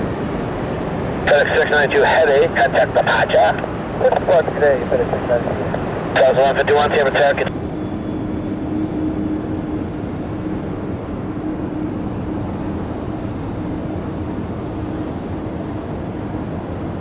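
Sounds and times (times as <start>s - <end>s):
jet engine noise: 0.0s - 17.0s.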